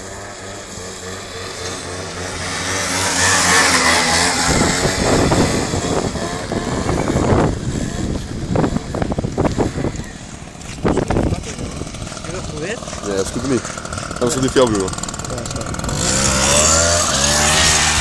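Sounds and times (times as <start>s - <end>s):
scooter engine revving: 0.0s - 18.0s.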